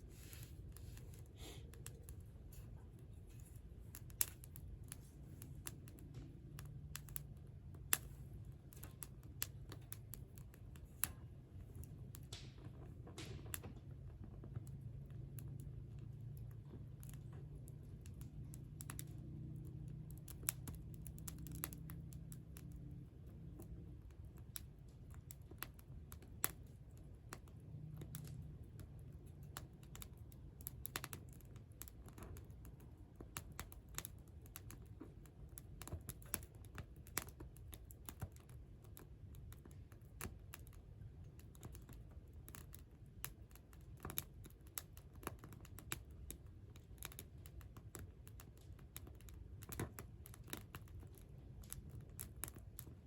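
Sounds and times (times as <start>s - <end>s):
low steady rumble: 0.0s - 53.0s
campfire crackling and popping: 0.1s - 53.0s.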